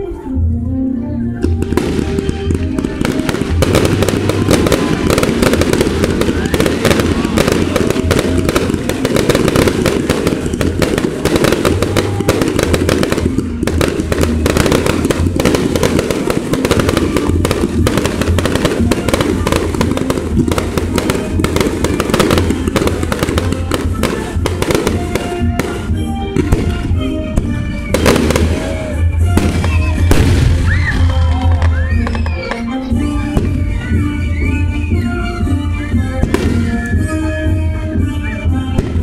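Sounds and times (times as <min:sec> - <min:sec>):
fireworks crackling: 0:01.4 - 0:35.5, 0:36.2 - 0:37.4.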